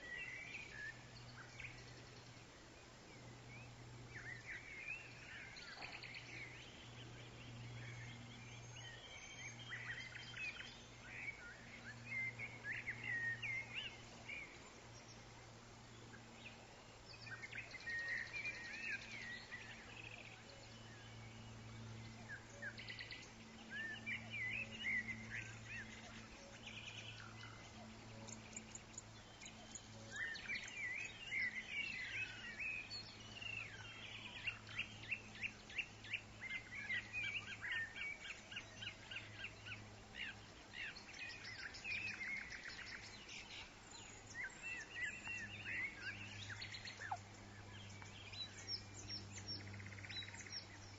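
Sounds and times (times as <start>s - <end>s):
birds singing and chirping: 0.0s - 2.4s, 3.1s - 50.9s
faint low hum: 0.0s - 50.9s.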